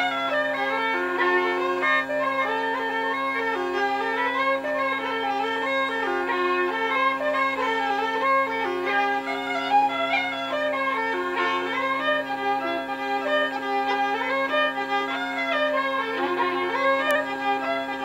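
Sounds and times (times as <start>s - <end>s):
uilleann pipes drone and melody: 0.0s - 18.0s.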